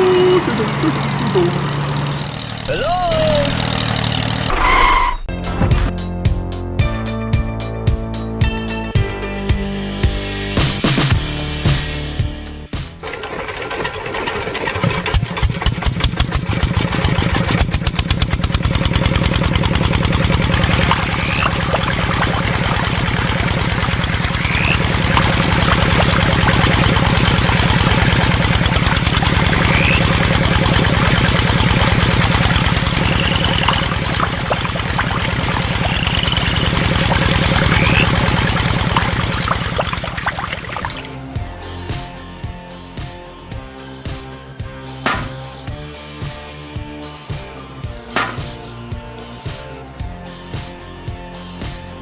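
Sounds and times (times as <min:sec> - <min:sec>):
small engine running: 0:00.0 - 0:04.5, 0:13.0 - 0:51.9.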